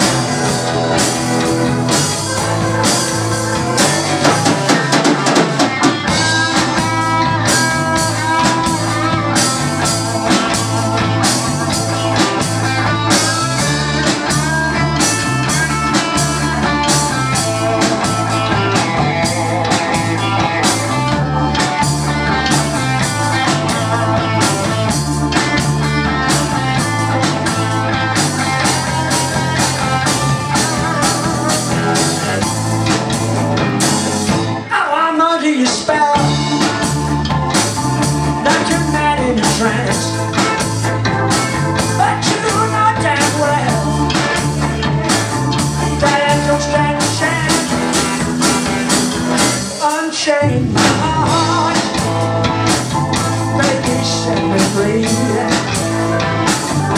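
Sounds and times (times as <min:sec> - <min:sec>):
drum kit steady beat: 0:00.0 - 0:34.7, 0:35.8 - 0:56.9
bass guitar: 0:00.0 - 0:56.9
electric guitar: 0:00.0 - 0:56.9
keyboard organ: 0:00.0 - 0:56.9.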